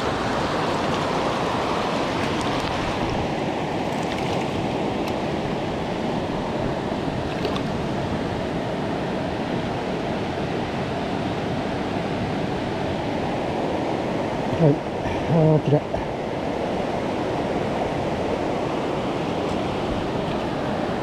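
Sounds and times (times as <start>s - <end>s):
mountain stream rushing: 0.0s - 21.0s.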